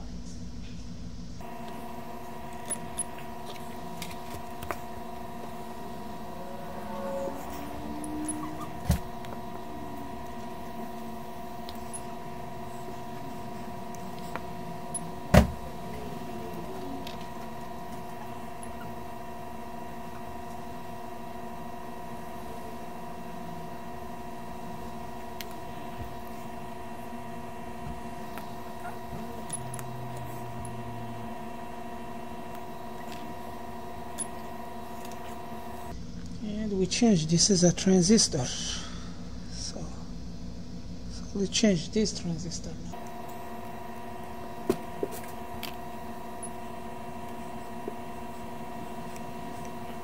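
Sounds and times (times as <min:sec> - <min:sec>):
electrical hum: 0:00.0 - 0:50.0.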